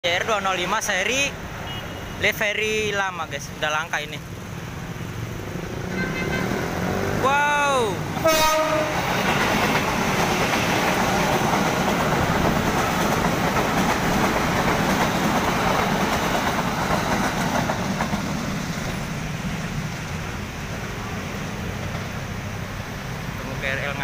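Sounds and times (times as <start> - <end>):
electric train passing at speed: 0.1 - 1.7, 2.4 - 24.0
wheels rushing on rails: 4.2 - 24.0.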